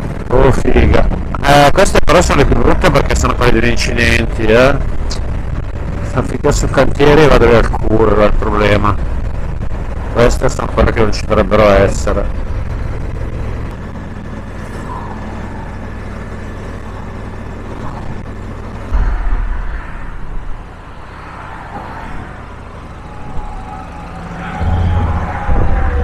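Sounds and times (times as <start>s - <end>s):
low rumble: 0.0s - 26.0s
motorcycle engine drone: 0.0s - 26.0s
rushing wind noise: 0.0s - 26.0s.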